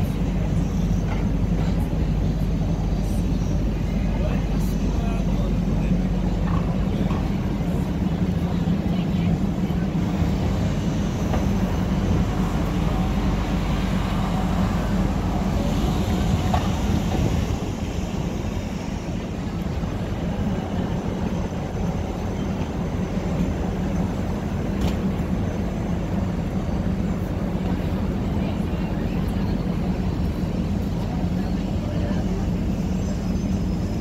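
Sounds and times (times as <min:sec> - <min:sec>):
low rumble of traffic: 0:00.0 - 0:34.0.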